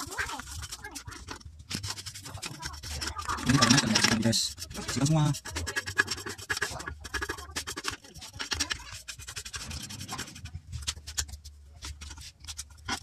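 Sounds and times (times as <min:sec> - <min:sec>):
circuit board scratching and clicking: 0:00.0 - 0:13.0.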